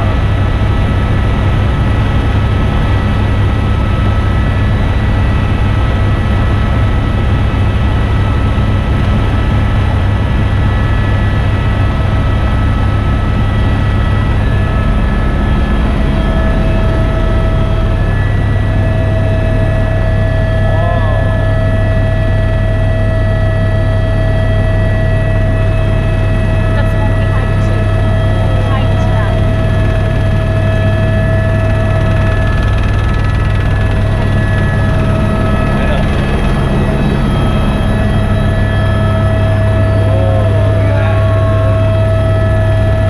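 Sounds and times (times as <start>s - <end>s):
helicopter rotor and engine drone: 0.0s - 43.0s.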